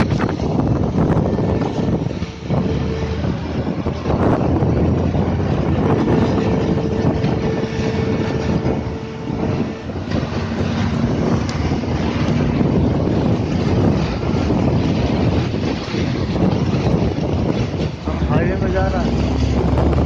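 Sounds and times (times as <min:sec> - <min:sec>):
vehicle running and road noise: 0:00.0 - 0:20.0
wind buffeting microphone: 0:00.0 - 0:20.0.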